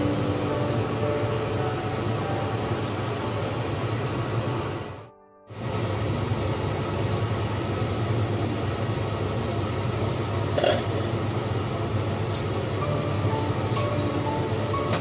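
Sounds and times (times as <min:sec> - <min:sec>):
cooling fan hum and hiss: 0:00.0 - 0:15.0
stew boiling in pot: 0:02.8 - 0:15.0.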